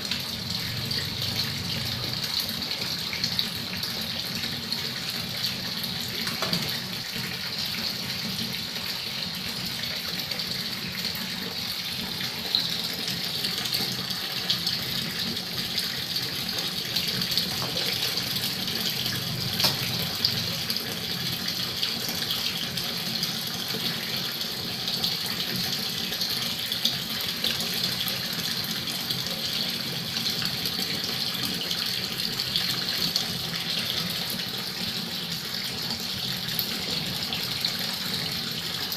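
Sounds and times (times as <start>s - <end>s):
water pouring from tap: 0.0s - 38.9s.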